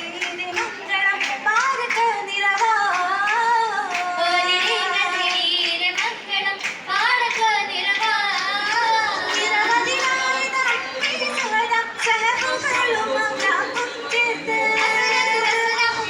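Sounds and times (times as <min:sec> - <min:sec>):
girls singing: 0:00.0 - 0:16.0
hand clapping: 0:00.0 - 0:16.0.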